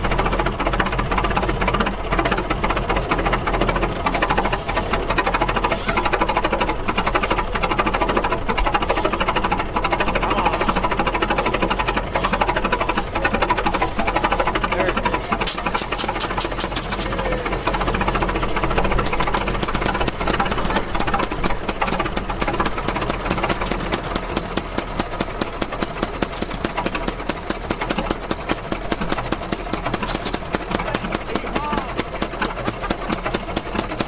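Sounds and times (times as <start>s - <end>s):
gas engine clattering: 0.0s - 34.0s.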